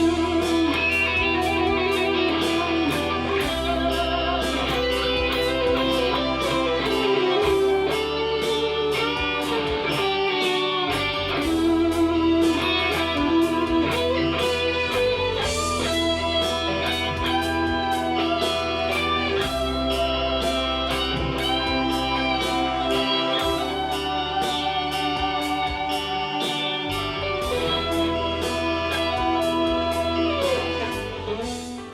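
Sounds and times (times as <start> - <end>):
backing jam track with beat: 0.0 - 31.9
electric guitar lead: 0.0 - 31.9.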